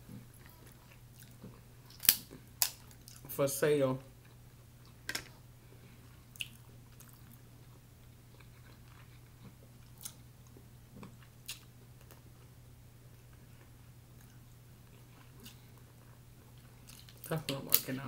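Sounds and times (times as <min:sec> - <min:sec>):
soft chewing: 0:00.0 - 0:03.3, 0:04.1 - 0:17.4
steady low hum: 0:00.0 - 0:18.0.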